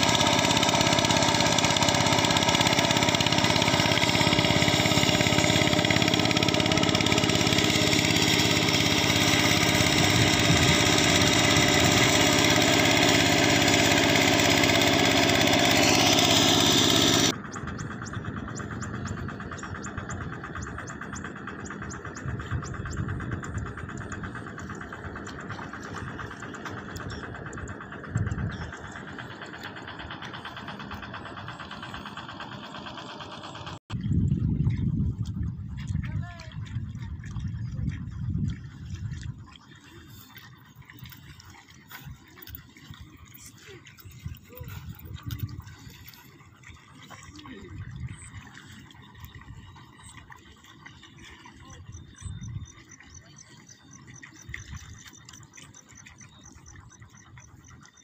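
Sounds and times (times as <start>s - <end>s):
hand tractor engine running: 0.0s - 58.0s.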